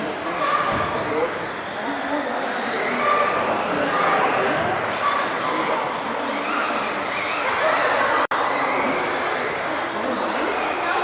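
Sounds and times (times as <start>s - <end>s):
electric toy car motors whining: 0.0s - 11.0s.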